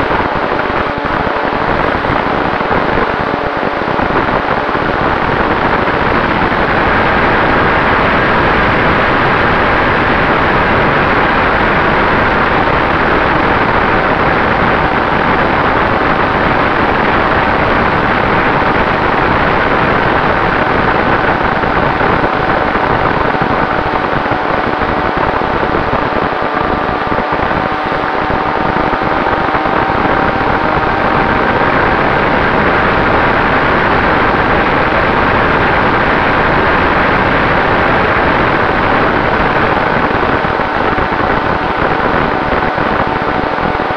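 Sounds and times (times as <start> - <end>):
faint motor whine: 0.0 - 43.9
wind and propeller rush: 0.0 - 43.9.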